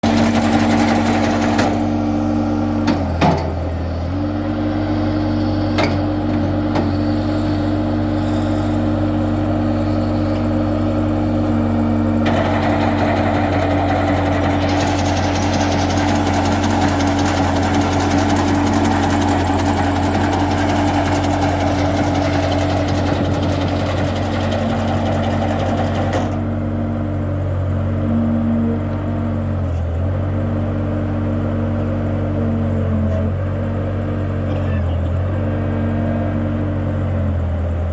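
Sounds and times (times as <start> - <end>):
loader engine running: 0.0 - 37.9.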